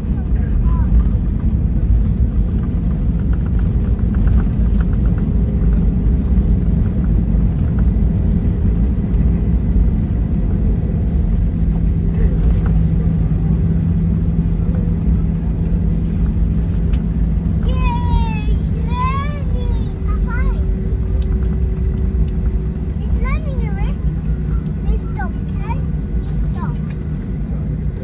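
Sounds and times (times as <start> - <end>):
low rumble of engines and airflow: 0.0 - 28.0
steady low hum: 0.0 - 28.0.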